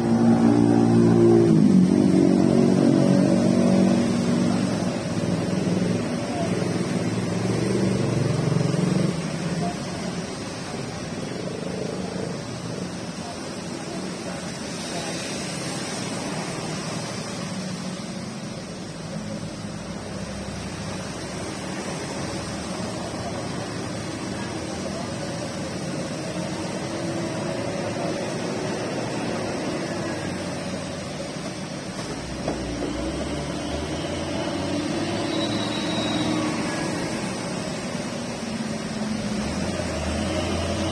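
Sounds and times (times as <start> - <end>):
faint voices: 0.0 - 40.9
heavy vehicle rumble: 0.0 - 40.9
road traffic passing: 0.0 - 40.9
steady rain hiss: 0.0 - 40.9.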